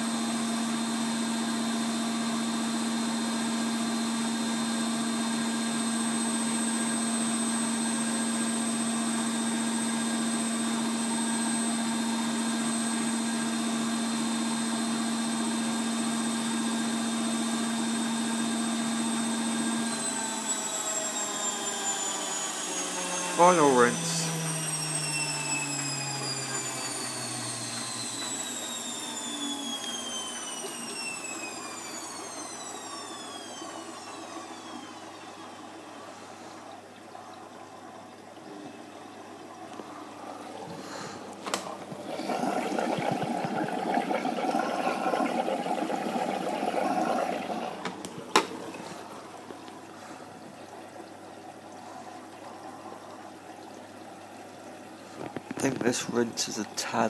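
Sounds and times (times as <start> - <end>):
washing machine drum motor whine: 0.0 - 57.0
water rushing into machine: 0.0 - 57.0.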